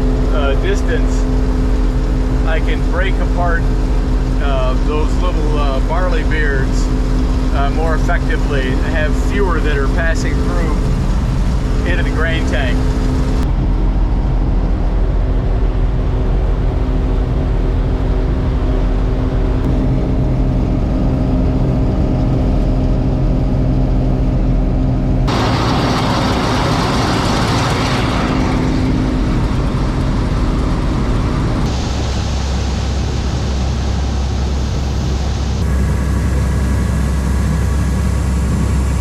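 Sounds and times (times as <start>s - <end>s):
combine harvester engine and machinery: 0.0s - 39.0s.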